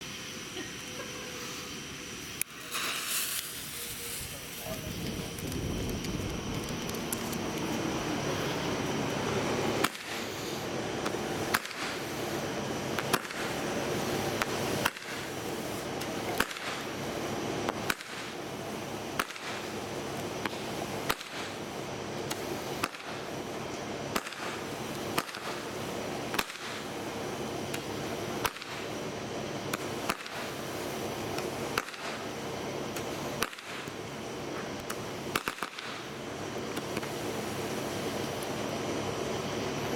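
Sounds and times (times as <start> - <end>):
firework hissing: 0.0 - 39.9
firework reports: 0.0 - 39.9.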